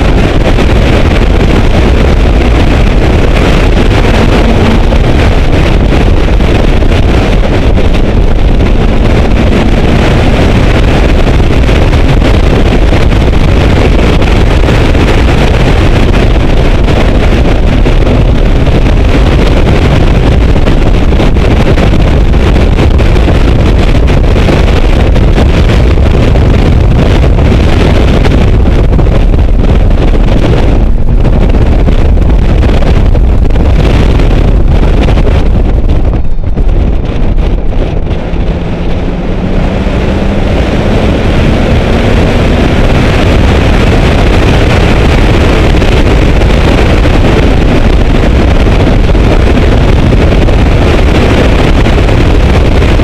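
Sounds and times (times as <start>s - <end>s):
car engine rumble: 0.0s - 53.0s
wind buffeting microphone: 0.0s - 53.0s.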